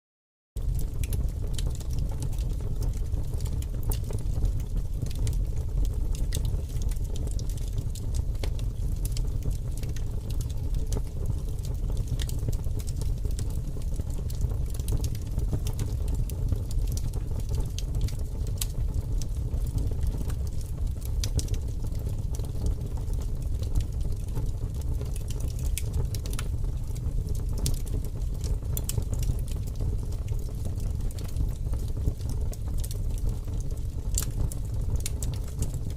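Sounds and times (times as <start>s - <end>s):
fire crackles and pops: 0.6s - 35.9s
low rumble of flames: 0.6s - 35.9s.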